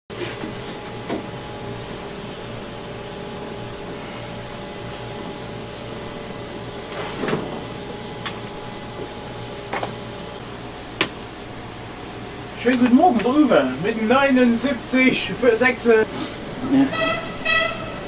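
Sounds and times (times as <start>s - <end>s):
steam locomotive hum and hiss: 0.1s - 18.0s.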